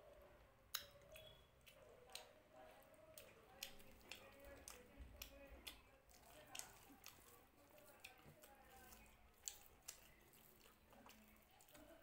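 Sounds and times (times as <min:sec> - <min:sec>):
sharp wet clicks: 0:00.7 - 0:02.4, 0:03.2 - 0:12.0.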